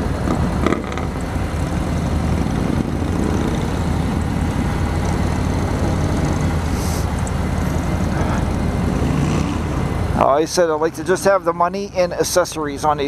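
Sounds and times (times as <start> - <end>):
motorcycle engine running: 0.0 - 10.6
road and wind noise: 0.0 - 13.0.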